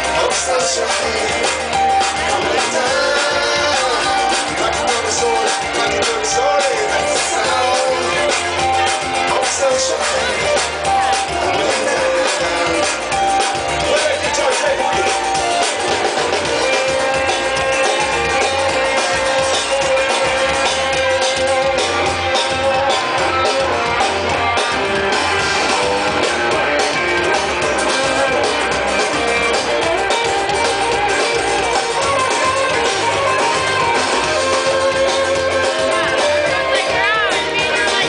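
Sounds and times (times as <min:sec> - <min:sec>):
drum kit: 0:00.0 - 0:38.0
lead guitar: 0:00.0 - 0:38.0
live band instrumental: 0:00.0 - 0:38.0.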